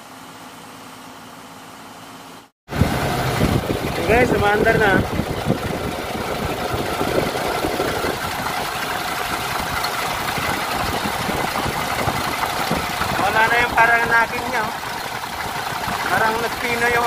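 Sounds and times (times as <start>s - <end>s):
truck diesel engine idling: 2.8s - 17.0s.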